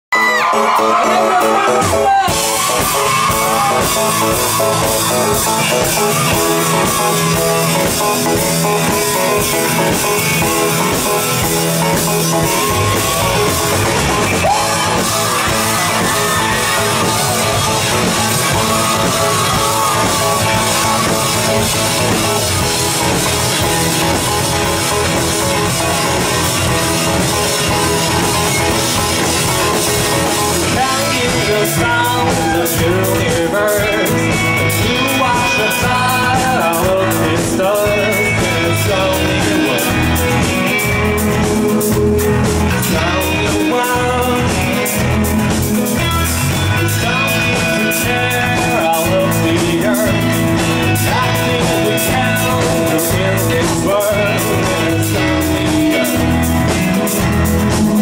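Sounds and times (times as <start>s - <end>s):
drum kit: 0.1s - 58.0s
electric guitar: 0.1s - 58.0s
person singing: 0.1s - 58.0s.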